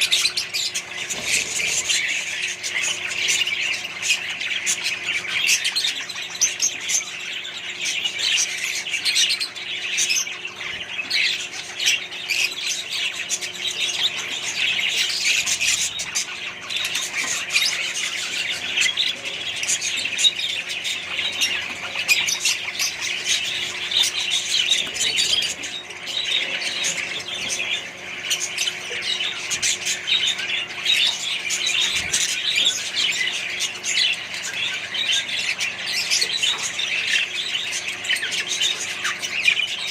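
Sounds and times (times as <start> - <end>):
parrots chattering and squawking: 0.0 - 39.9.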